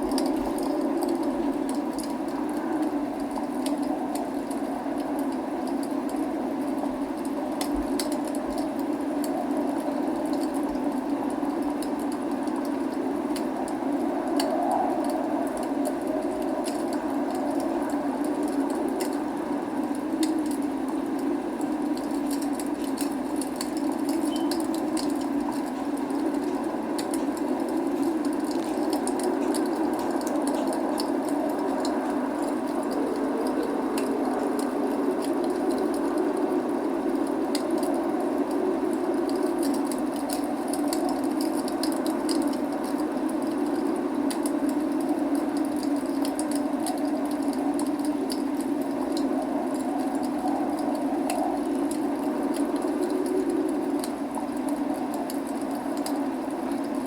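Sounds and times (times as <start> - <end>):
log fire crackling and popping: 0.0 - 57.0
rain: 0.0 - 57.0.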